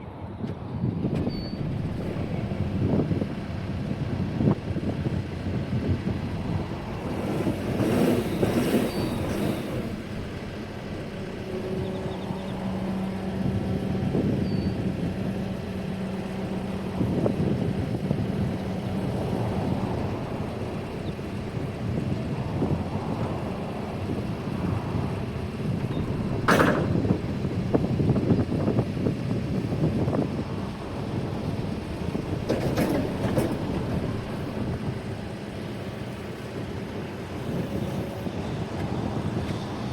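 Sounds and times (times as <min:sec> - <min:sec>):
diesel engine running: 0:00.9 - 0:39.9.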